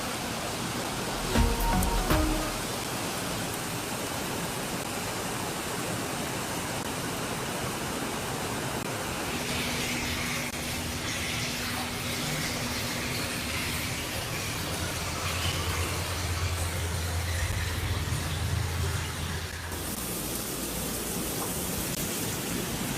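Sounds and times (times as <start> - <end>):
rushing water: 0.0 - 22.9.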